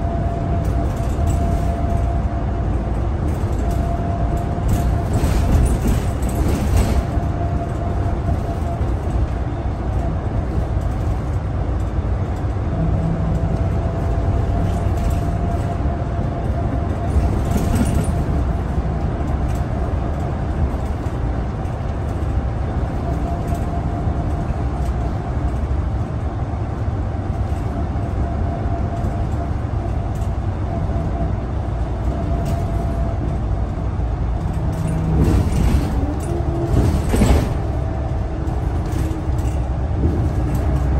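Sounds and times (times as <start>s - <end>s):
bus engine rumble: 0.0s - 40.9s
continuous whine: 0.0s - 40.9s
road noise: 0.0s - 40.9s.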